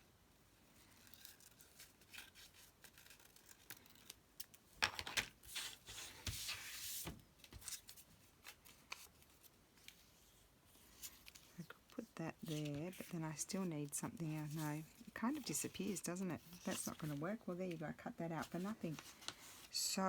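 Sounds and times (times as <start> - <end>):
paper rustling: 0.8 - 19.9.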